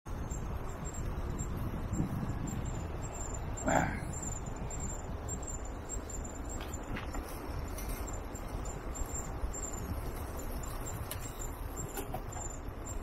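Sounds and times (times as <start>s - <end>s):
low street rumble: 0.1s - 13.0s
thin high pulsing tone: 0.1s - 13.0s.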